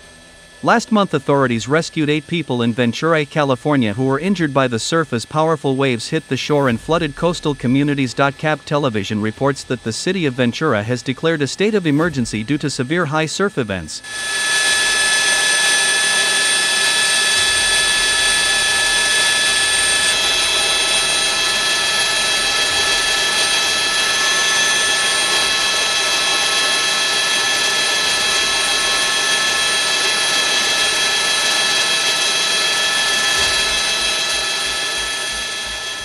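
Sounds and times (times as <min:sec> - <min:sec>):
helicopter turbine and rotor: 0:00.0 - 0:36.0.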